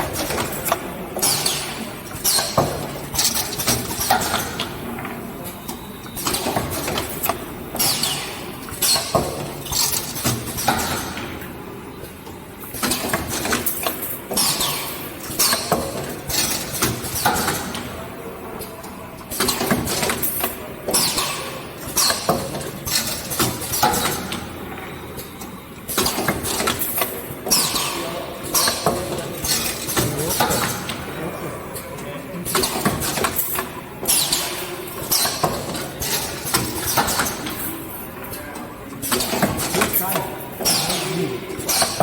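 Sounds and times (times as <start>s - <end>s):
workshop machinery running: 0.0s - 42.0s.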